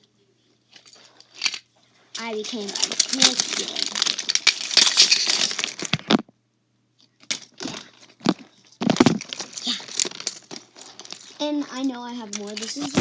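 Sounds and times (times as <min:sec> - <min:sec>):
toys rustling and crinkling: 0:00.7 - 0:06.3, 0:07.2 - 0:13.0.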